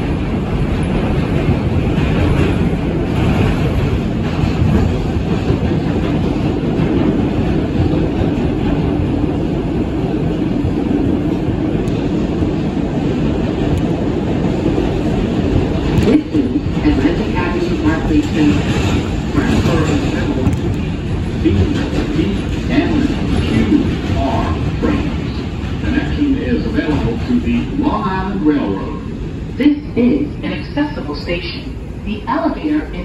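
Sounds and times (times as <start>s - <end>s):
subway train wheels rumbling: 0.0s - 33.0s.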